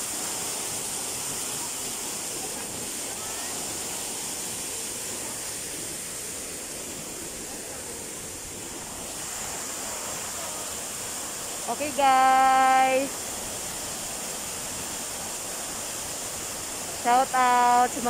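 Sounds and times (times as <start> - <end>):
fountain water falling: 0.0 - 18.0.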